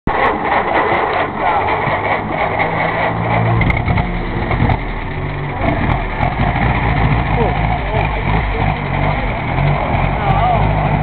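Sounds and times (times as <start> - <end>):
jeep engine running: 0.1 - 11.0.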